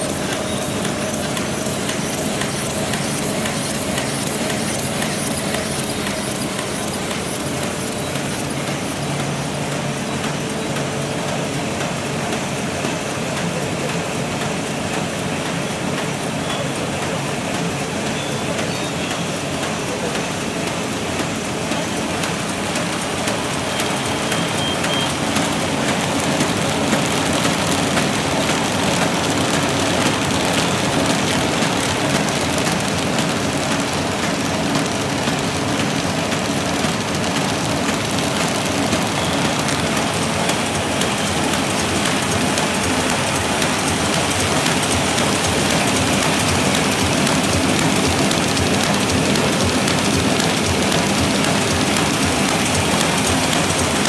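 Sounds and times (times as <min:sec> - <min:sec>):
paper bag machine running: 0:00.0 - 0:54.0.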